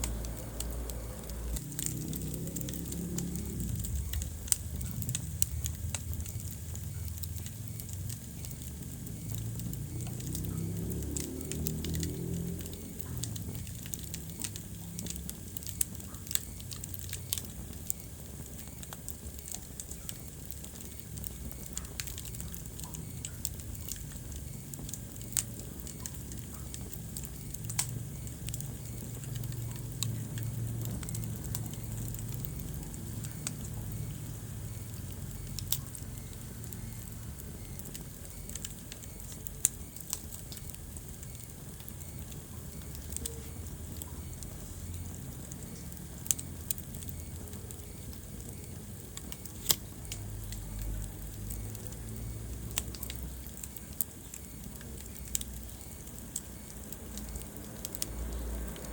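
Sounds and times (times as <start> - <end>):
fire crackling and popping: 0.0 - 58.9
low rumble of flames: 0.0 - 58.9.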